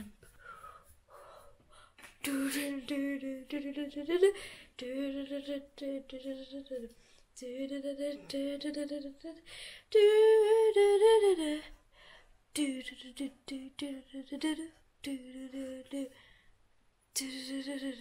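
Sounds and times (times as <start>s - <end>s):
girl singing wordless tune: 0.0s - 16.5s, 17.1s - 18.0s.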